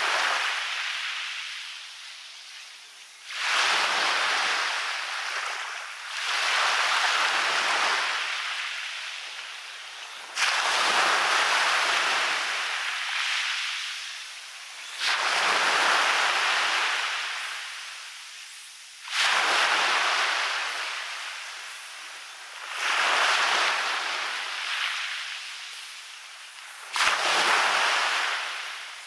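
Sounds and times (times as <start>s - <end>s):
sea waves breaking on beach: 0.0s - 29.0s.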